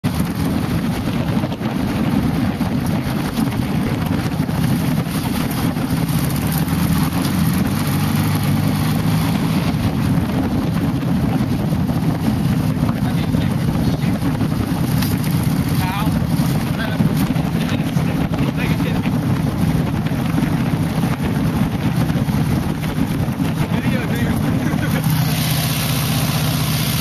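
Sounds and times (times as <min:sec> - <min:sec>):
dune buggy engine droning: 0:00.0 - 0:27.0
wind noise on microphone: 0:00.0 - 0:27.0.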